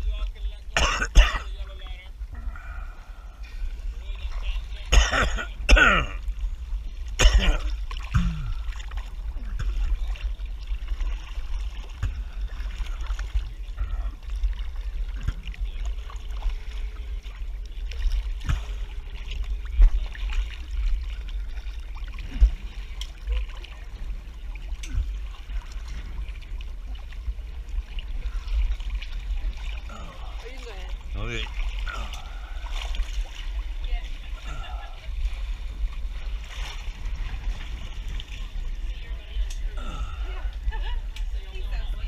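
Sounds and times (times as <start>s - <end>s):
low rumble: 0.0s - 42.0s
water lapping and sloshing: 0.0s - 42.0s
short splashes: 7.1s - 41.9s.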